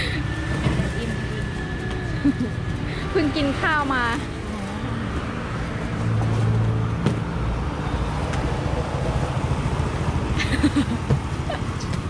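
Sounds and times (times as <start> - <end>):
passing traffic rumble: 0.0 - 12.0.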